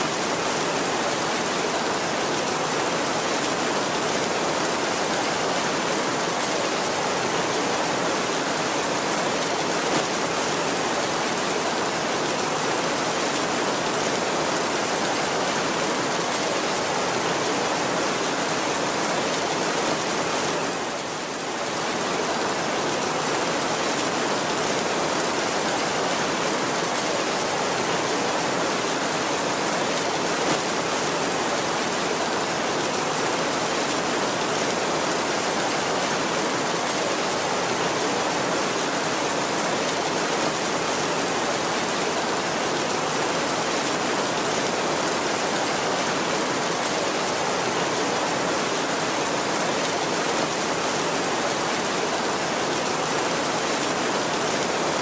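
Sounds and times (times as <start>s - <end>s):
heavy rain on a tin roof: 0.0s - 55.0s.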